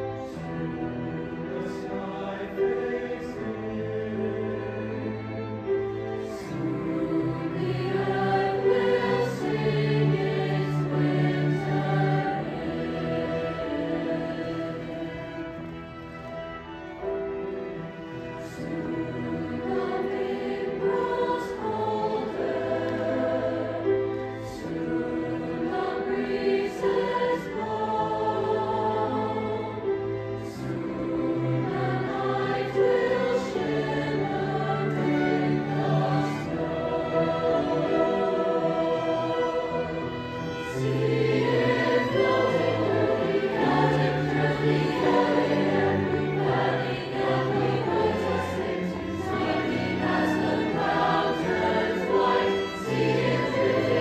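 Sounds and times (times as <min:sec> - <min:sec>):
cello: 0:00.0 - 0:54.0
grand piano: 0:00.0 - 0:54.0
mixed choir singing: 0:00.0 - 0:54.0.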